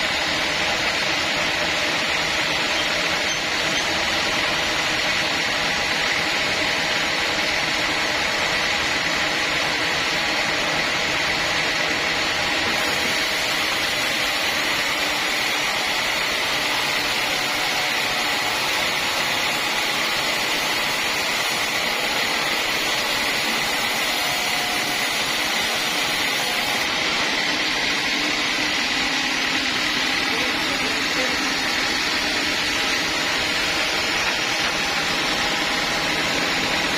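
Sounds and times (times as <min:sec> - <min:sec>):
sawmill saw running: 0:00.0 - 0:36.9.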